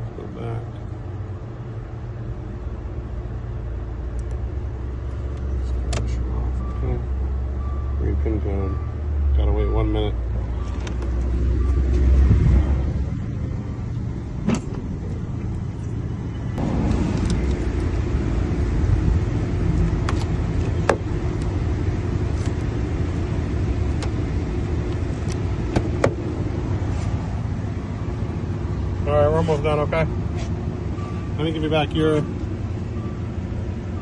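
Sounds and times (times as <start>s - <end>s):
motor vehicle rumble: 0.0s - 34.0s.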